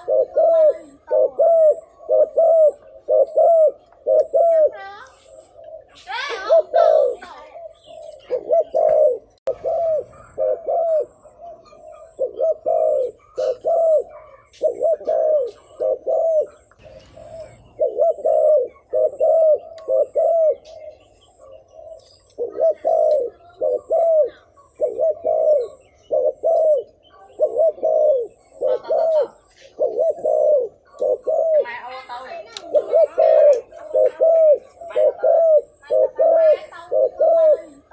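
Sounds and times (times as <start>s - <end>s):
dove cooing: 0.0s - 37.9s.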